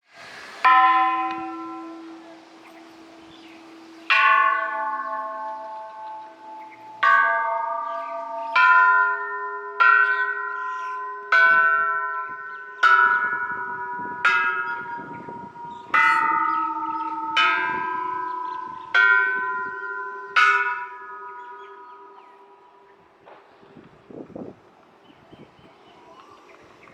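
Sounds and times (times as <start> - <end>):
temple bells struck by hand: 0.6 - 22.8.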